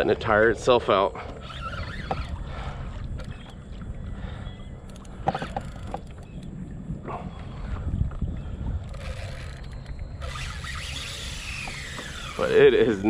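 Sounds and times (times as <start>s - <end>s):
kayak moving on water: 0.0s - 13.0s
wind rumble on microphone: 0.0s - 13.0s.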